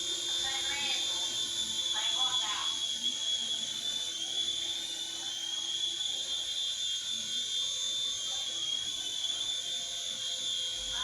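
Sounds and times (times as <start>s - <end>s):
toy helicopter motor whine: 0.0s - 11.0s.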